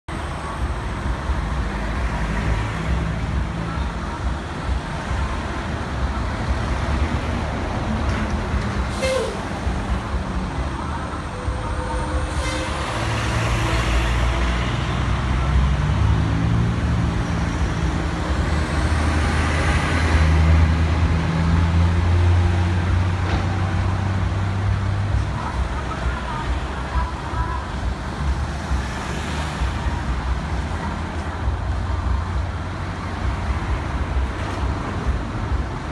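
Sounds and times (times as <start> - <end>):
heavy vehicle engine rumbling: 0.1 - 35.9.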